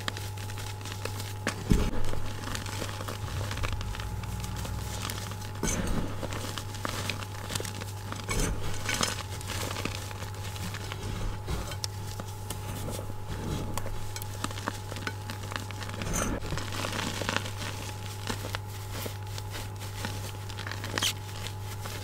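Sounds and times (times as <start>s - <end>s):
hands crunching powdery chalk: 0.0s - 22.0s
steady low hum: 0.0s - 22.0s.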